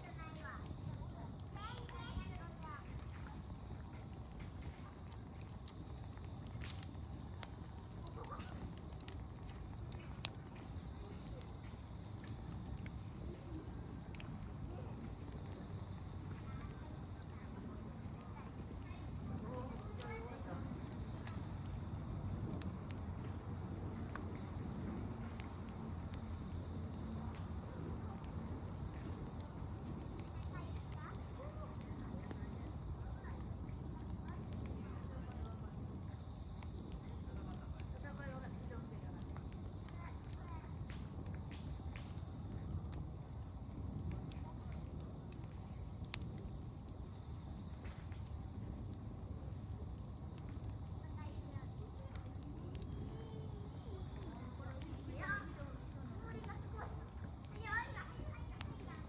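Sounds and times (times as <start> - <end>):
insect chirping: 0.0 - 26.8, 36.2 - 59.0
campfire rumbling: 0.0 - 59.0
firewood crackling and popping: 0.0 - 59.0.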